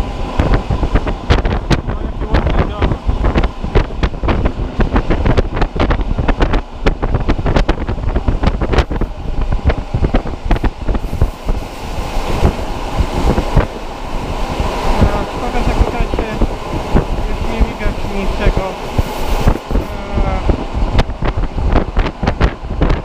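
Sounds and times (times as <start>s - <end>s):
wind blowing on microphone: 0.0s - 23.0s.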